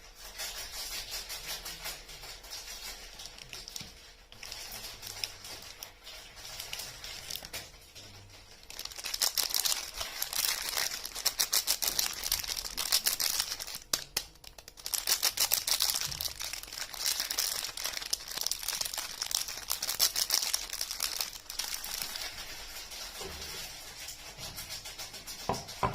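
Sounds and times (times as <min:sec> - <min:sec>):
packaging crinkling: 0:01.2 - 0:25.9.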